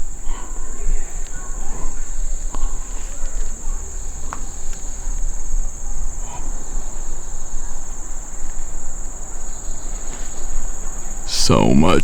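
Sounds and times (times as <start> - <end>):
insects shrill drone: 0.0 - 12.0.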